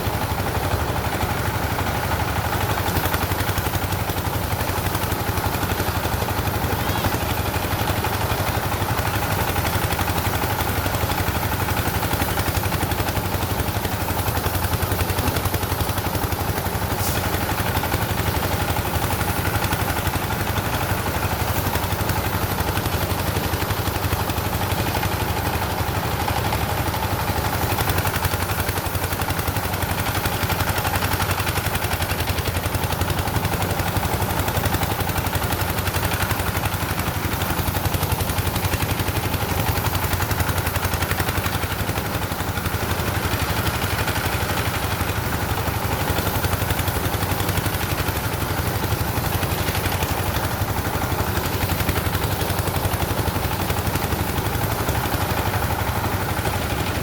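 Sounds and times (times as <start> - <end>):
engine chugging: 0.0 - 57.0.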